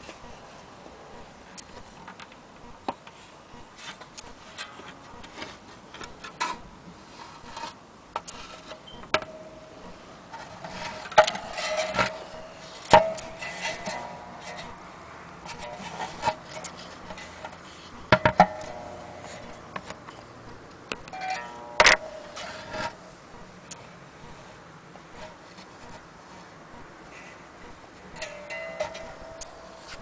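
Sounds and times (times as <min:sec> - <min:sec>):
faint steady tone: 0:00.0 - 0:30.0.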